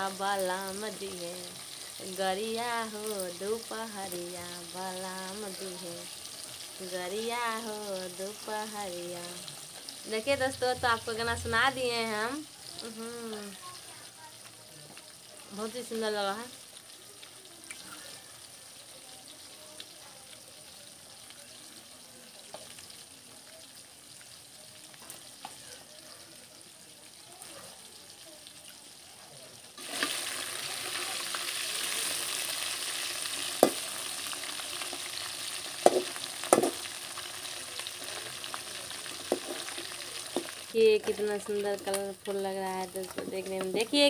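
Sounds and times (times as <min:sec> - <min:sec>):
fish frying in hot oil: 0:00.0 - 0:44.0.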